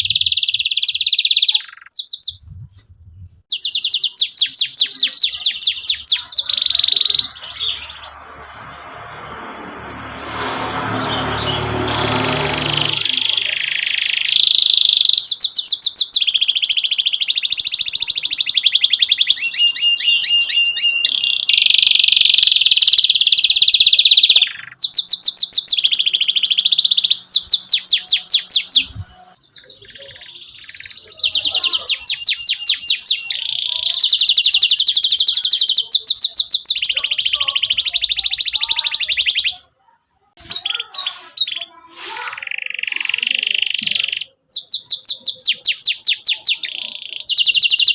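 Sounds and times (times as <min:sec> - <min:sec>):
canary singing trills: 0:00.0 - 0:09.0, 0:10.3 - 0:39.8, 0:40.4 - 0:47.9.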